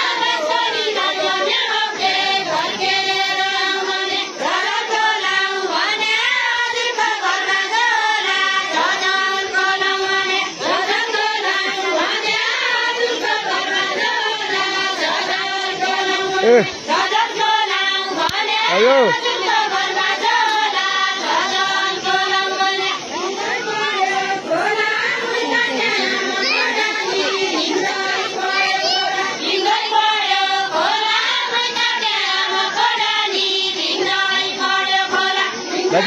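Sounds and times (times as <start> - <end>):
women singing folk song: 0.0 - 36.0.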